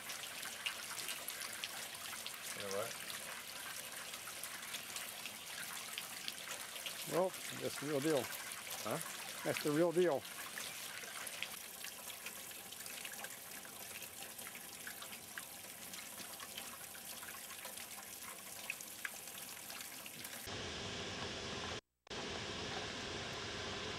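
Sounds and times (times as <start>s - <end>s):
faint ticks and drips: 0.0s - 20.5s
water running and trickling: 0.0s - 20.5s.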